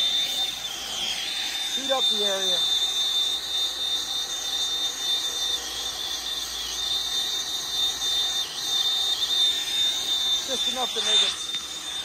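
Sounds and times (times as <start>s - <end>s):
gas torch hissing: 0.0s - 12.0s
steady high tone: 0.0s - 12.0s.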